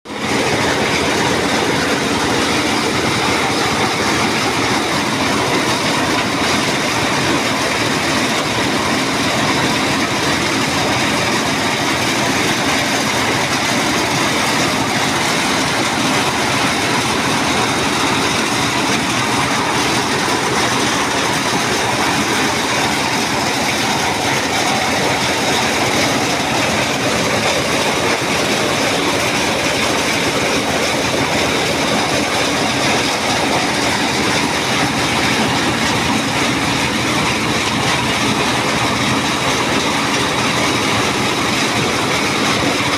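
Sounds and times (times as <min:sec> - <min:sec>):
corn milling machine running: 0:00.1 - 0:42.9.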